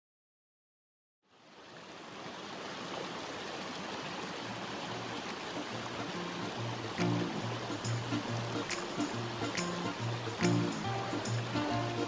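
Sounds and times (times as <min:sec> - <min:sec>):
mountain stream rushing: 0:01.4 - 0:12.0.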